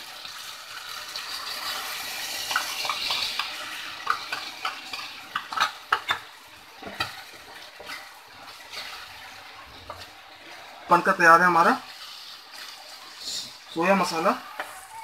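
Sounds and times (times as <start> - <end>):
liquid poured into pan: 0.0 - 13.8
food sizzling in a metal pan: 0.0 - 15.0
metal spoon scraping a pan: 1.1 - 10.8, 11.8 - 14.9.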